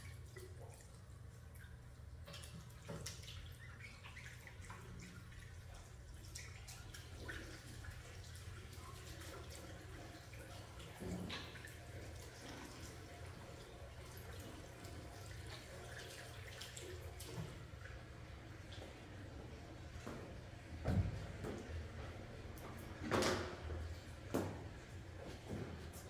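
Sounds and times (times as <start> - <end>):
water splashing and dripping: 0.0 - 26.0.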